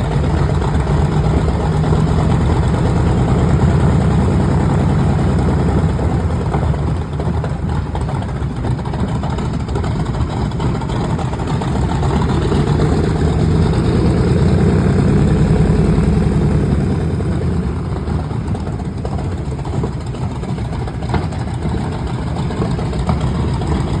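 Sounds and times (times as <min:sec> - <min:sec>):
radial aircraft engine running: 0:00.0 - 0:24.0.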